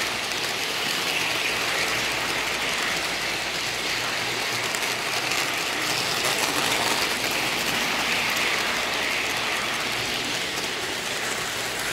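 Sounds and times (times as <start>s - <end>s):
model train wheels clattering: 0.0s - 11.9s.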